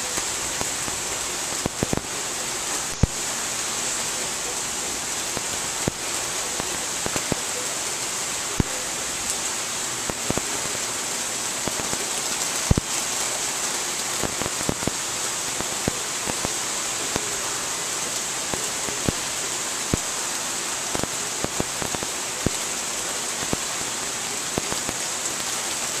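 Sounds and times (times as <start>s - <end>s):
raindrops ticking on surfaces: 0.0s - 26.0s
steady rain hiss: 0.0s - 26.0s.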